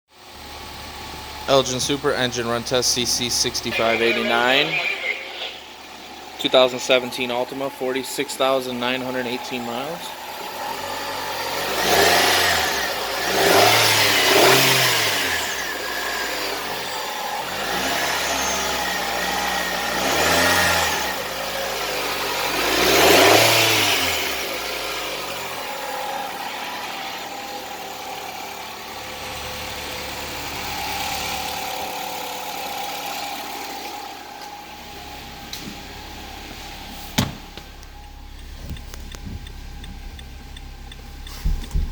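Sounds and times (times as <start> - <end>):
car engine revving and idling: 0.1 - 41.9.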